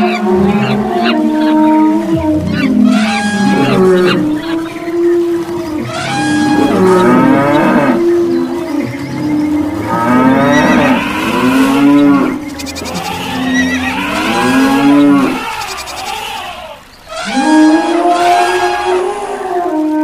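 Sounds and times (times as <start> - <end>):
cattle mooing: 0.0 - 20.0.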